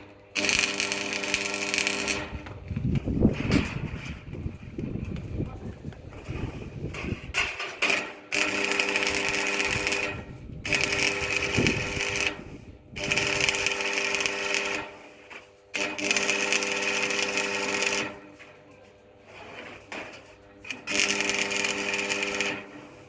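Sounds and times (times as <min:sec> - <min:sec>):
power tool motor running: 0:00.3 - 0:05.4, 0:06.0 - 0:18.4, 0:19.4 - 0:23.0.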